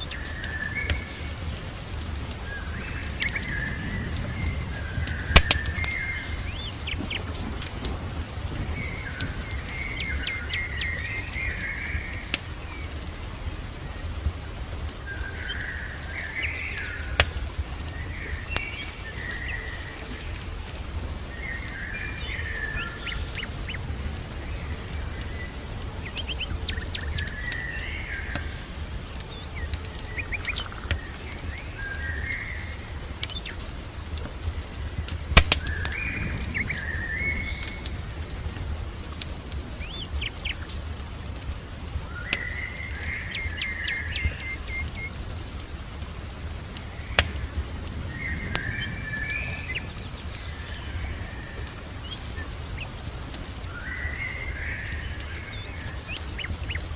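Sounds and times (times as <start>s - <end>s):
songbirds chirping: 0.0s - 56.9s
wood fire crackling and popping: 0.0s - 56.9s.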